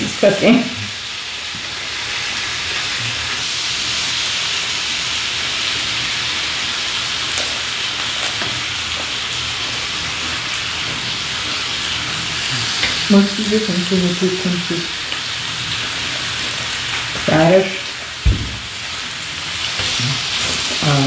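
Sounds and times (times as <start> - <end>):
meat sizzling on grill pan: 0.0 - 21.0.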